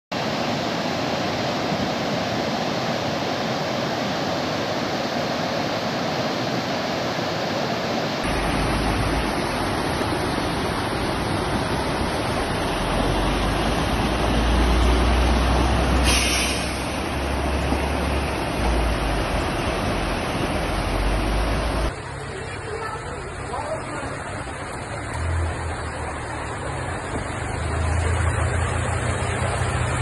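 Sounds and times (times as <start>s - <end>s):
floodwater rushing: 0.2s - 30.0s.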